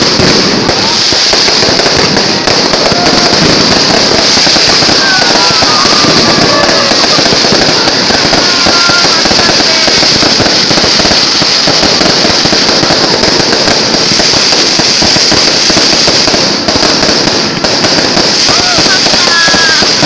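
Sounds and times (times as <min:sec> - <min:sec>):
fireworks crackling pops: 0:00.0 - 0:20.0
fireworks high hiss: 0:00.0 - 0:20.0.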